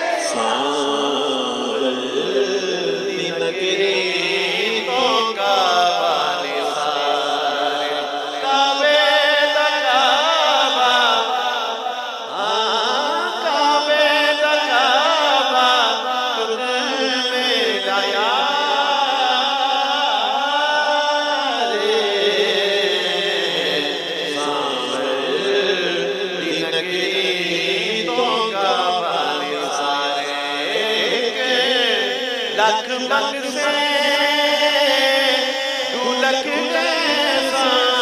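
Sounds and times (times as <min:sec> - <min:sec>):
man singing over loudspeakers: 0:00.0 - 0:38.0.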